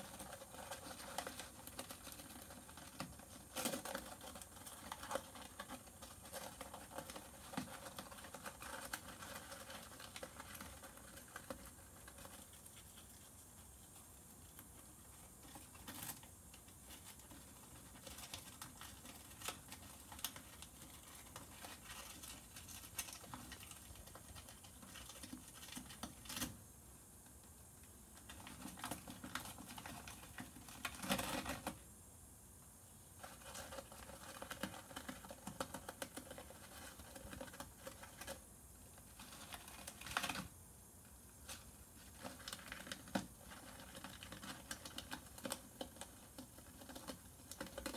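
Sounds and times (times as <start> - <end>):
hamster gnawing paper: 0.0 - 26.6, 27.2 - 31.9, 33.0 - 47.9.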